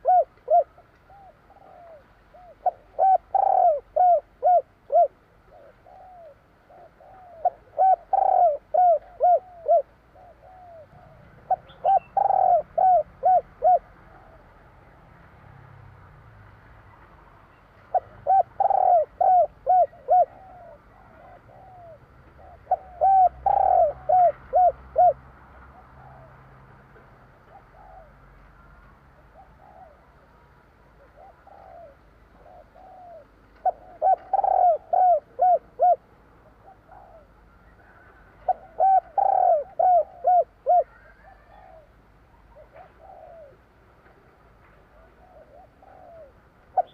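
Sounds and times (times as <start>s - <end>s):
dove cooing: 0.0s - 14.8s, 17.8s - 26.5s, 27.3s - 28.4s, 29.2s - 46.9s.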